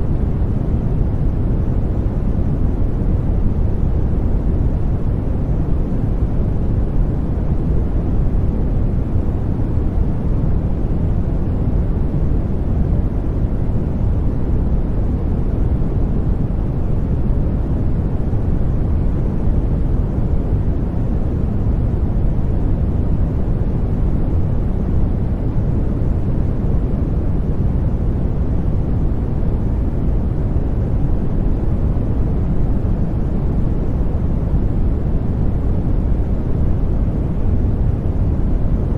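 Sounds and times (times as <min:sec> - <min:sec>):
deep white noise rush: 0:00.0 - 0:38.9.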